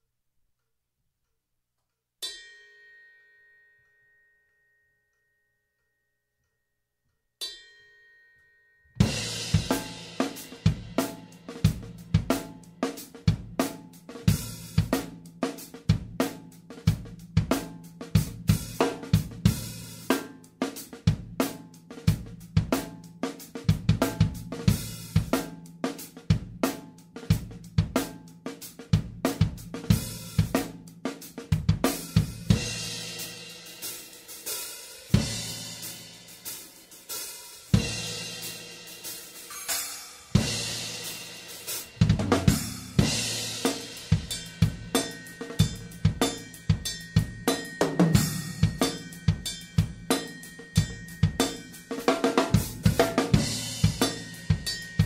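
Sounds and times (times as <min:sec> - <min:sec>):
drum kit playing beat: 0:09.0 - 0:55.0.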